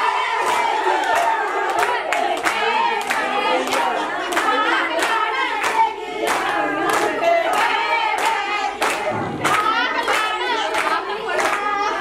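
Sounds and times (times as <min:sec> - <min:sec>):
hands clapping along: 0:00.0 - 0:11.9
group of voices singing: 0:00.0 - 0:12.0.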